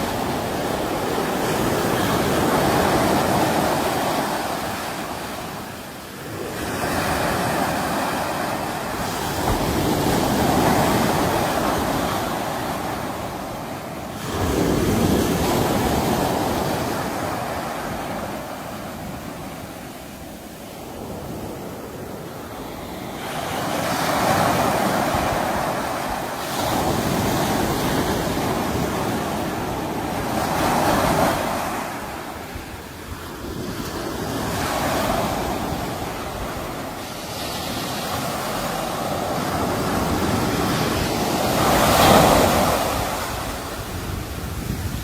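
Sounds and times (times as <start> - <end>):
sea waves breaking: 0.0 - 45.0.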